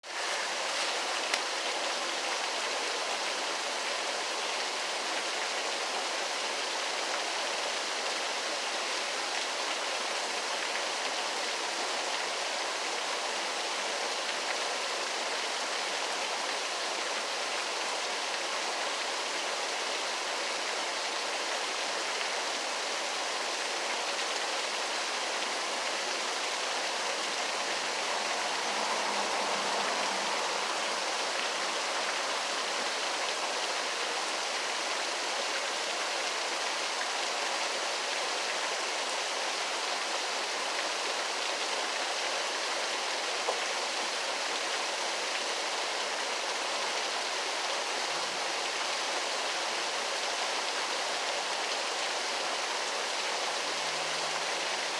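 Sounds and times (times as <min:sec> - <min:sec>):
waterfall rushing: 0:00.0 - 0:14.3, 0:15.3 - 0:54.9.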